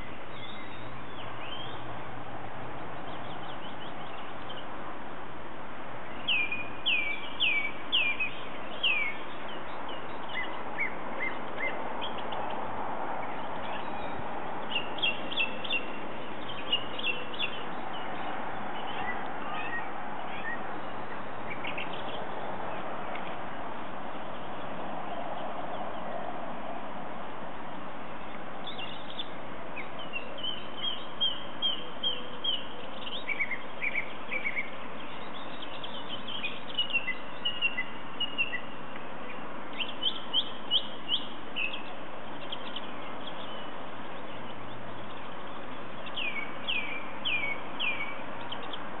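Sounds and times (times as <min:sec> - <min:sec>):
songbird singing: 0:00.0 - 0:49.0
steady background hiss: 0:00.0 - 0:49.0.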